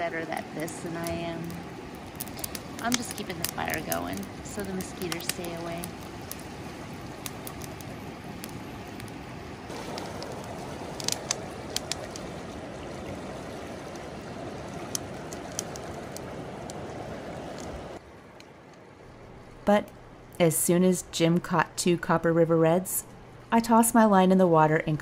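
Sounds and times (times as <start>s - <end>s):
river water flowing: 0.0s - 20.4s.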